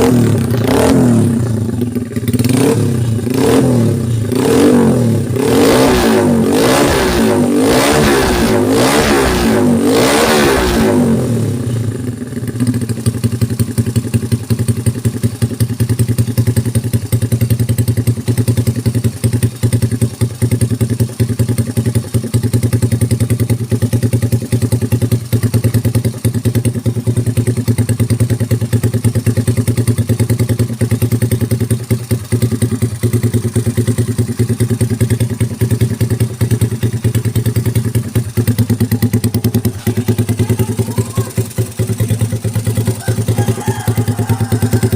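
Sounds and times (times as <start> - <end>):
motorcycle engine revving and idling: 0.0 - 44.9.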